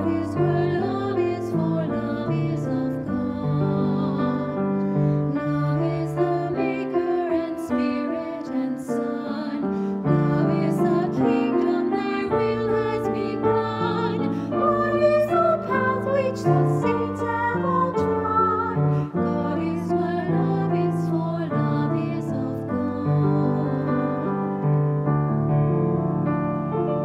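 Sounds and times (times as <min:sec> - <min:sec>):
woman singing a hymn: 0:00.0 - 0:04.6, 0:05.3 - 0:24.3
piano chords: 0:00.0 - 0:27.0.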